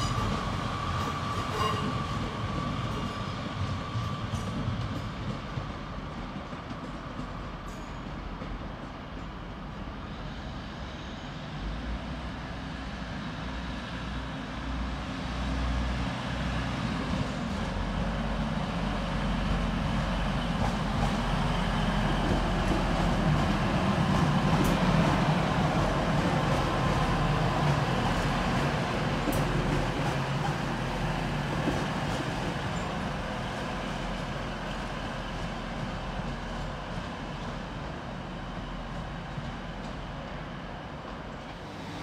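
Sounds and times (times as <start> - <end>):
diesel train engine drone: 0.0 - 42.0
rail noise: 0.0 - 42.0.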